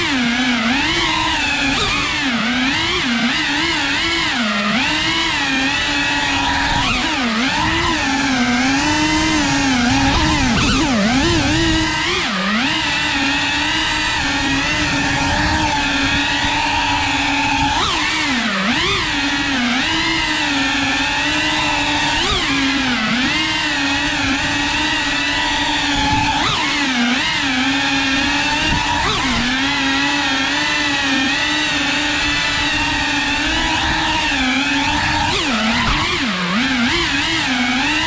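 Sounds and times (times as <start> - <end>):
drone propellers buzzing: 0.0 - 38.0.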